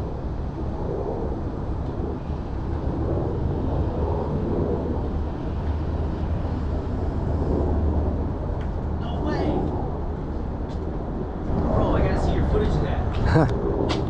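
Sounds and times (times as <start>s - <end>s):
helicopter rotor rumble: 0.0s - 14.0s.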